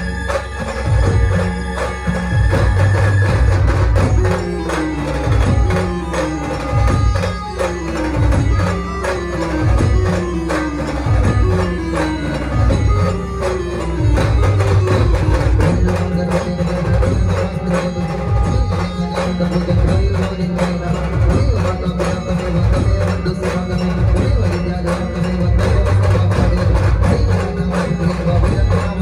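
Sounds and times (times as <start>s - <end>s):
hand drums: 0.0s - 29.0s
keyboard melody: 0.0s - 29.0s
heavy bass beat: 2.4s - 29.0s.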